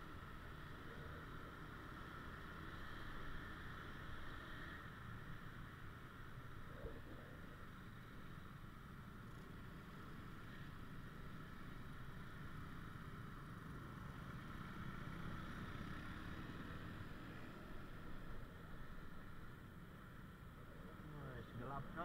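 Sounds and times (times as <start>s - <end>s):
motorbike engines rumbling: 0.0s - 22.0s
road noise: 0.0s - 22.0s.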